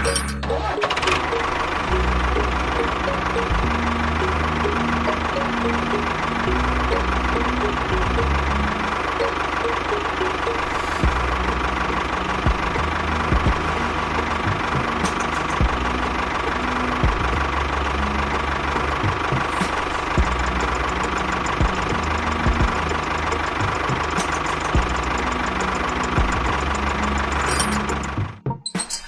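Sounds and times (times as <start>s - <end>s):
small engine running: 0.0s - 28.3s.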